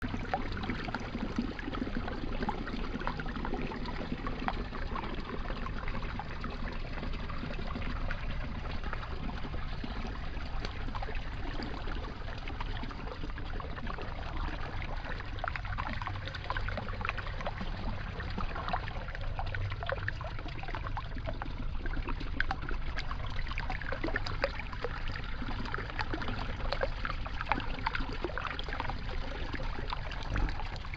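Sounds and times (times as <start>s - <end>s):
shallow water trickling and splashing: 0.0s - 30.9s.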